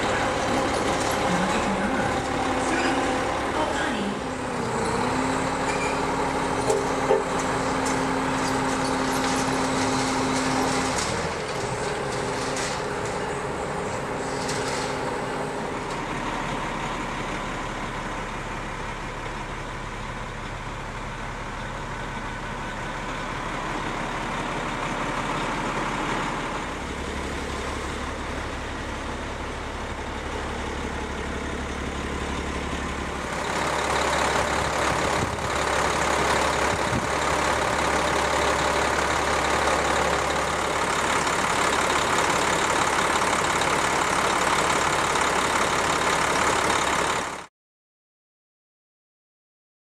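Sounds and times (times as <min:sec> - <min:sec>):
diesel truck engine running: 0:00.0 - 0:47.5.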